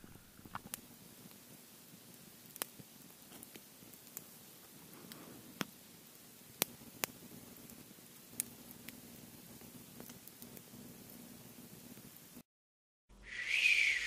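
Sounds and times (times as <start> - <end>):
campfire crackles and pops: 0.0 - 12.4
fire hissing: 0.0 - 12.4, 13.2 - 14.0.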